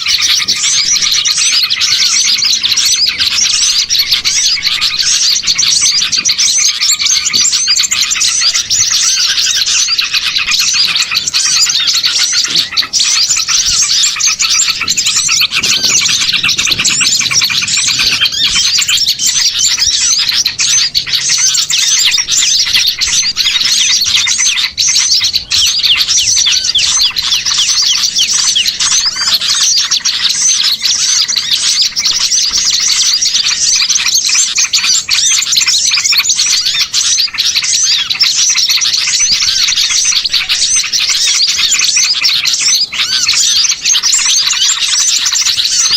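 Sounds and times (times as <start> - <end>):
small songbirds chirping: 0.0 - 45.9.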